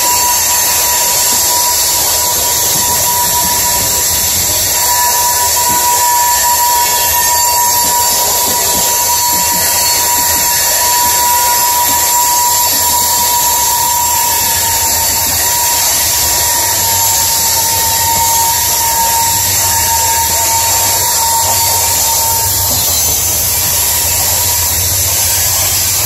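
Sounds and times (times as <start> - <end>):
steel wheels squealing on rail: 0.0 - 26.0
train cars rumbling: 0.0 - 26.0.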